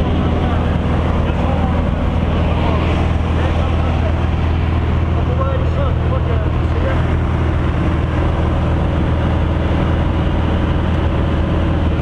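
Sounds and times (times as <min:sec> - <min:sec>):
aircraft engine drone in cabin: 0:00.0 - 0:12.0.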